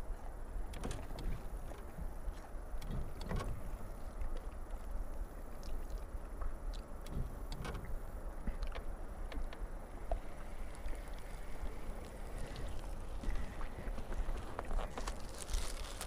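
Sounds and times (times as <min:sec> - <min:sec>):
boat engine low rumble: 0:00.0 - 0:16.0.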